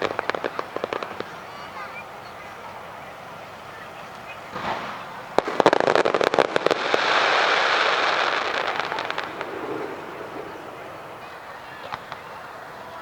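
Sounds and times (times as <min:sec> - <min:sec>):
fireworks bangs and crackles: 0:00.0 - 0:13.0
fireworks rushing hiss: 0:00.0 - 0:13.0.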